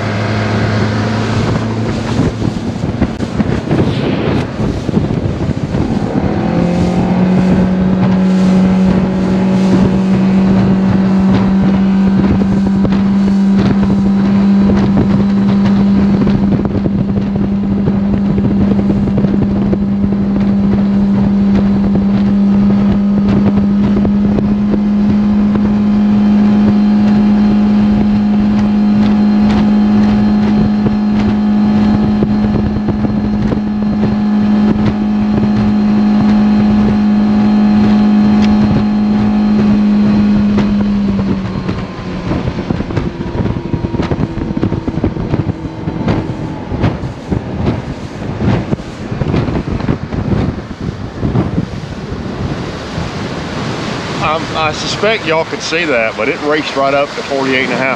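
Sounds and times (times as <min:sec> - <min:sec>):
outboard motor at full throttle: 0:00.0 - 0:57.9
water rushing: 0:00.0 - 0:57.9
wind noise: 0:00.0 - 0:57.9.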